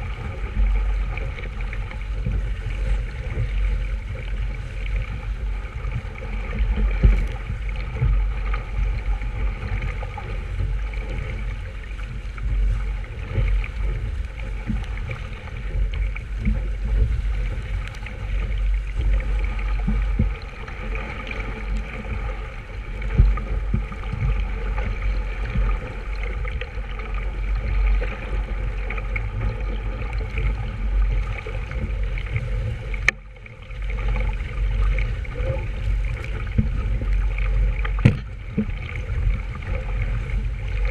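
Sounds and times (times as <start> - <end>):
water sloshing along a hull: 0.0 - 40.9.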